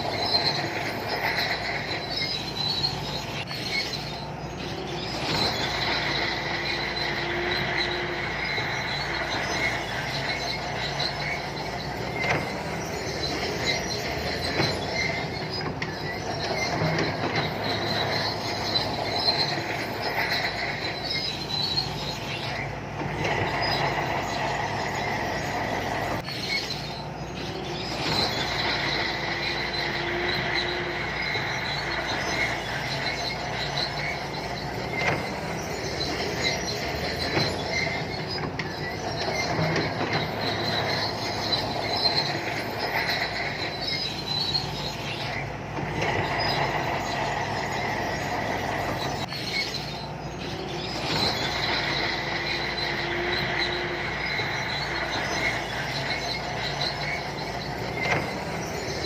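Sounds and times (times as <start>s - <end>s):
bulldozer diesel engine running: 0.0s - 59.0s
steel tracks squealing and clanking: 0.0s - 59.0s.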